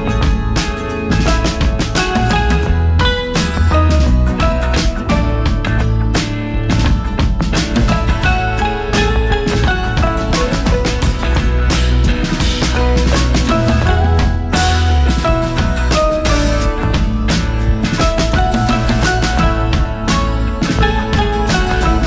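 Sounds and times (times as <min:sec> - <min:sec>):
drum beat: 0:00.0 - 0:22.0
held melody notes: 0:00.0 - 0:22.0.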